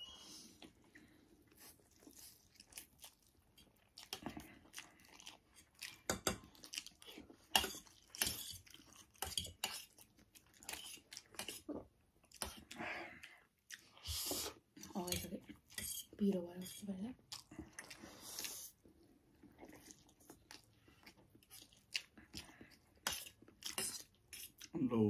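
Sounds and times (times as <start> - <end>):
chewing noodles: 0.5 - 16.2, 17.1 - 24.8.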